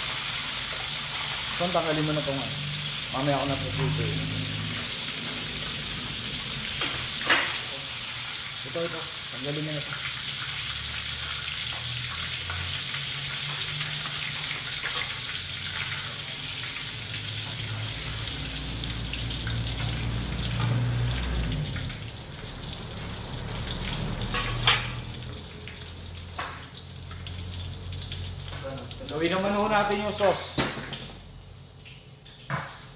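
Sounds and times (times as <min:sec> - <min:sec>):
oil sizzling in a wok: 0:00.0 - 0:32.9.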